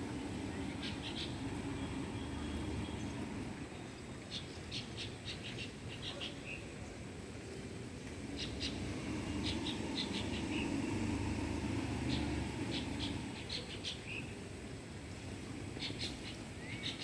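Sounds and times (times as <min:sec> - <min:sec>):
small birds chirping: 0:00.0 - 0:07.6, 0:08.3 - 0:14.6, 0:15.6 - 0:17.0.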